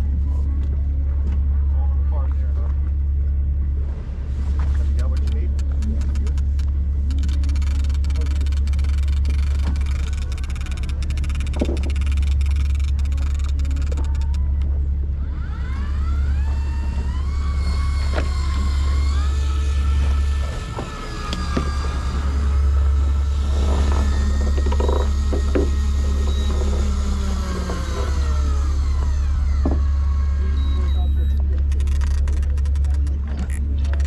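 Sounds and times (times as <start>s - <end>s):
boat engine drone: 0.0s - 34.0s
electric fishing reel motor whining: 5.8s - 34.0s.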